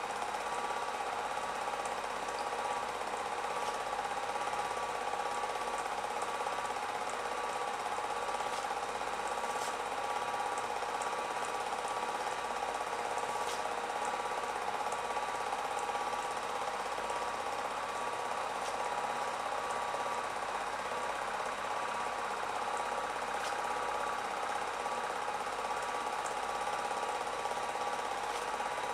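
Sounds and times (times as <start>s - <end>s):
film projector whirring: 0.0s - 28.9s.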